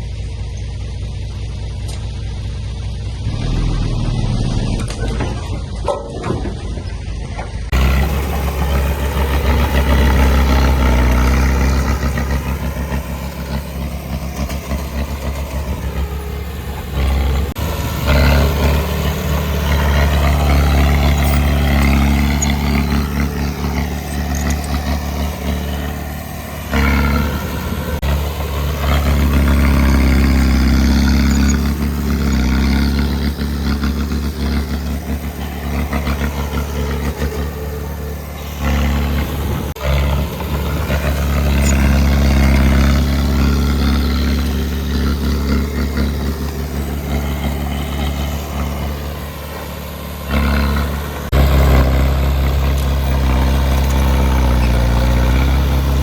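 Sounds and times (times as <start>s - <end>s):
heavy diesel engine working: 0.0s - 56.0s.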